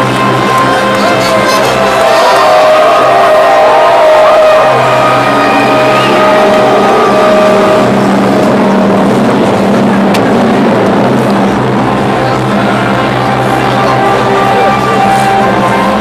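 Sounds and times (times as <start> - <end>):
crowd noise: 0.0 - 16.0
music over loudspeakers: 0.0 - 16.0.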